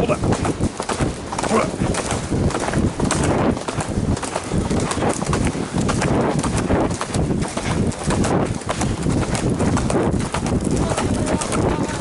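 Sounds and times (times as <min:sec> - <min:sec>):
horse hoofbeats galloping: 0:00.0 - 0:12.0.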